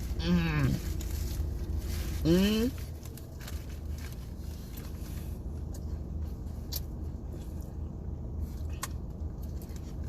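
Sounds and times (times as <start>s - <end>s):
low hum inside a car: 0.0s - 10.0s.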